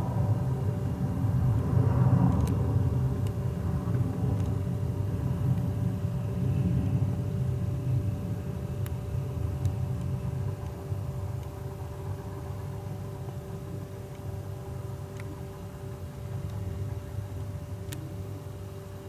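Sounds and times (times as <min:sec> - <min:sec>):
jet engines rumbling and whining: 0:00.0 - 0:19.0.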